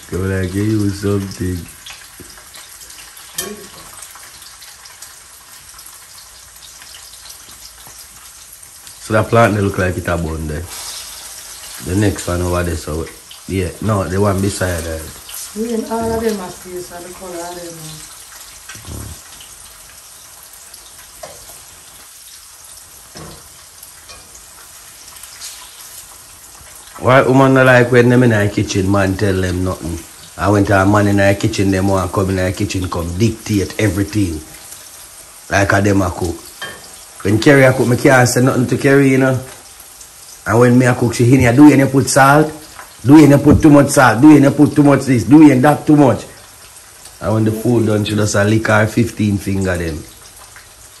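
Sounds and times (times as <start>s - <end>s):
food sizzling in frying pan: 0.0s - 51.0s.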